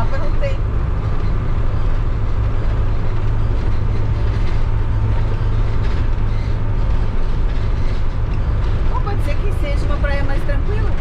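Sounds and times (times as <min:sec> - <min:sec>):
engine drone: 0:00.0 - 0:11.0
road noise: 0:00.0 - 0:11.0.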